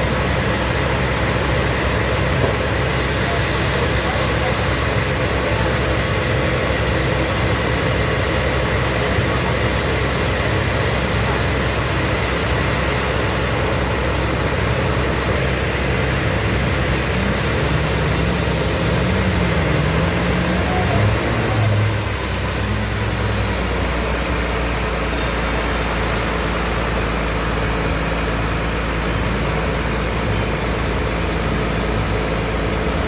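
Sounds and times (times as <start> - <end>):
sawmill machinery running: 0.0 - 33.0.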